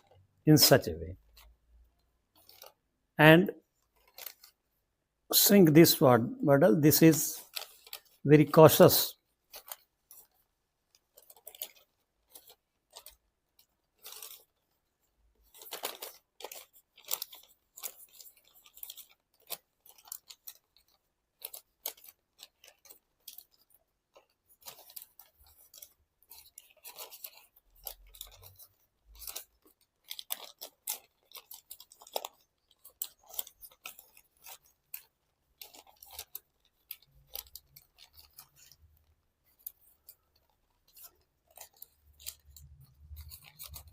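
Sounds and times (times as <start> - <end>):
paper crinkling and rustling: 0.0 - 43.9.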